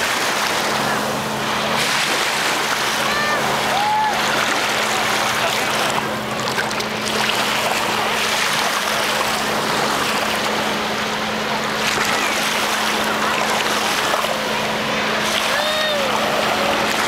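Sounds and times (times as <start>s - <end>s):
steady low hum: 0.0s - 17.0s
water splashing: 0.0s - 17.0s
waves lapping on shore: 0.0s - 17.0s.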